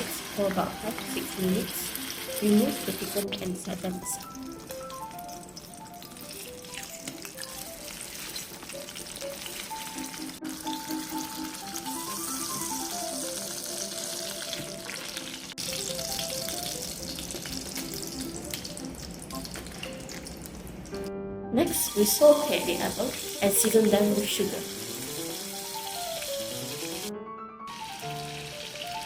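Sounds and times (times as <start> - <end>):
food sizzling in hot oil: 0.0 - 21.0, 21.6 - 27.1, 27.7 - 29.0
light background music: 0.0 - 29.0.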